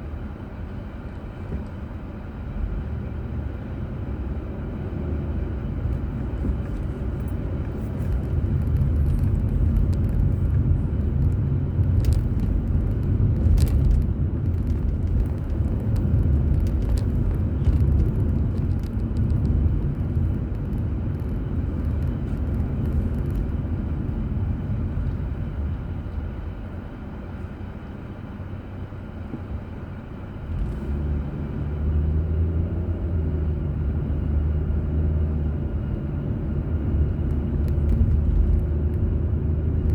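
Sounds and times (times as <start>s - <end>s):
engine and tyre rumble: 0.0s - 39.9s
engine hum: 0.0s - 39.9s.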